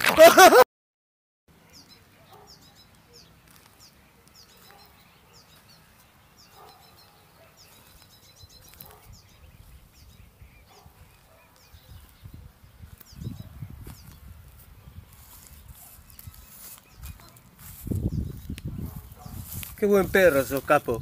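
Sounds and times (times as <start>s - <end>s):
small birds chirping: 1.5s - 21.0s.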